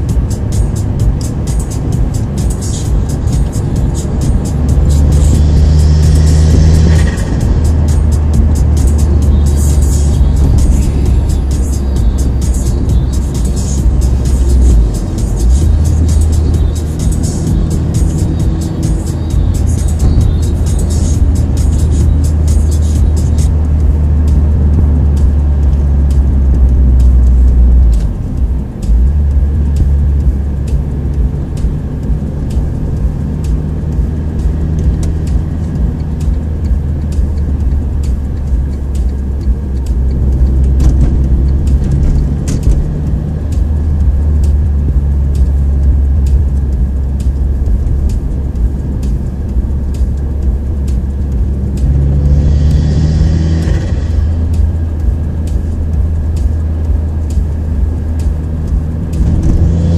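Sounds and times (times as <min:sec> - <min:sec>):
car engine drone: 0:00.0 - 0:59.9
road rumble: 0:00.0 - 0:59.9.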